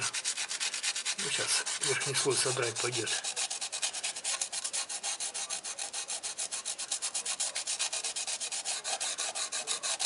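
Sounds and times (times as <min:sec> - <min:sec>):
sandpaper scraping on metal: 0:00.0 - 0:10.0.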